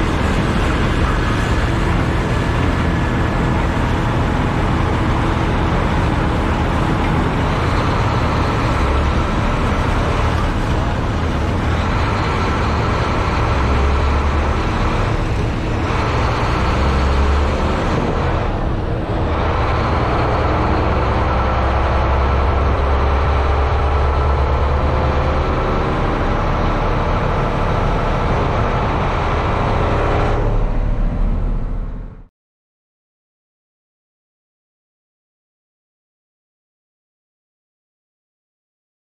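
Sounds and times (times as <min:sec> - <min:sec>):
road noise: 0:00.0 - 0:32.3
truck diesel engine running: 0:00.0 - 0:32.3.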